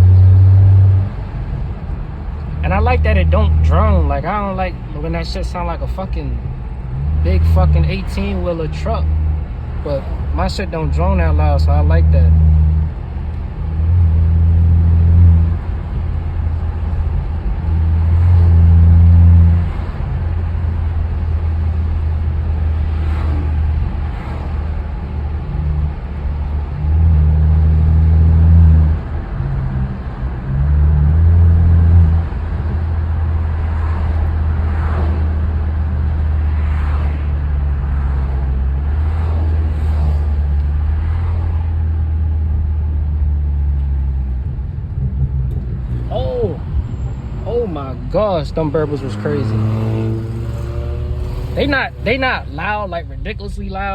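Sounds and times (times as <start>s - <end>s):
car exhaust drone: 0.0s - 53.9s
exhaust crackles: 0.0s - 53.9s.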